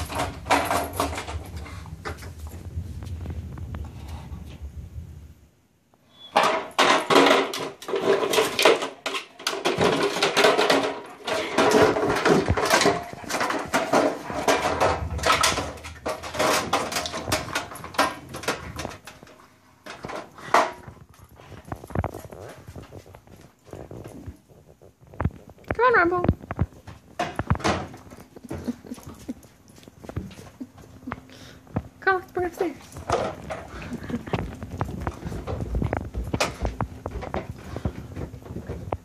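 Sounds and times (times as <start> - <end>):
plastic clattering and rattling: 0.0 - 2.6, 6.4 - 29.4, 32.6 - 39.0.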